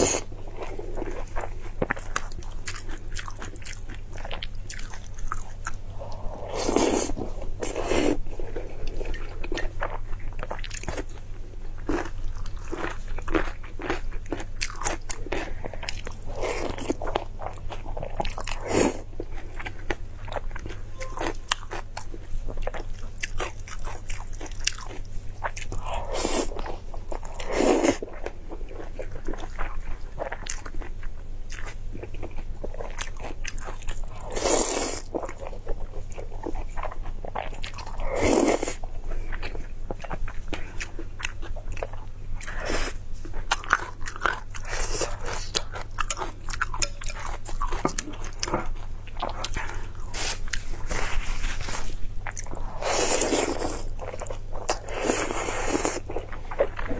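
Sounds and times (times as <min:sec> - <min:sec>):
chewing crunchy food: 0:00.0 - 0:56.9.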